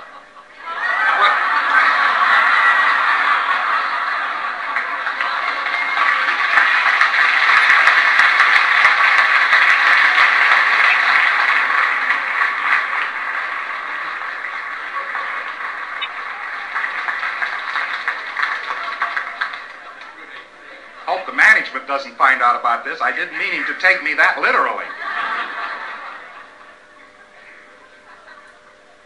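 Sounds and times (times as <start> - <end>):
audience laughing: 0.0 - 29.0
audience applauding: 0.7 - 26.6.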